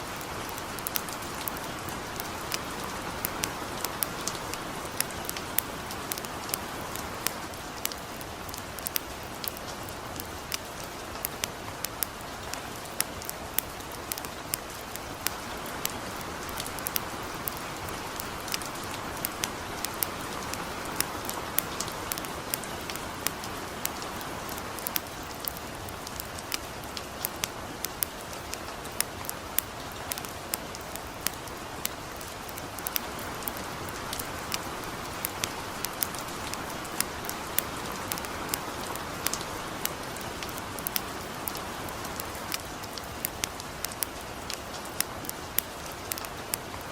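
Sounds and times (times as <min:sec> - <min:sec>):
campfire crackling: 0:00.0 - 0:46.9
gentle rain: 0:00.0 - 0:46.9.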